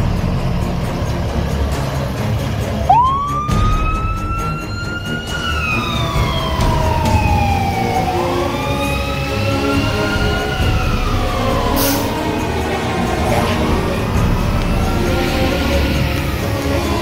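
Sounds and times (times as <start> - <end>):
fire engine running: 0.0 - 17.0
wailing siren: 2.8 - 17.0.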